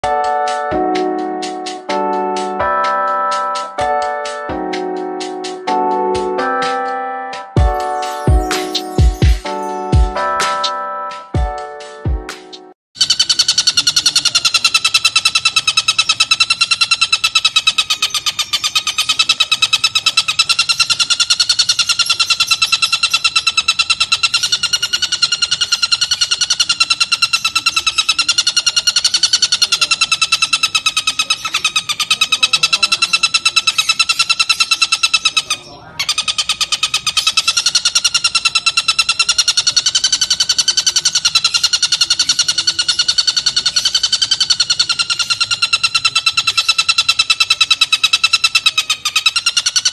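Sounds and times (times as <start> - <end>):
bird calling with harsh rattle: 0.2 - 11.3, 13.0 - 49.9.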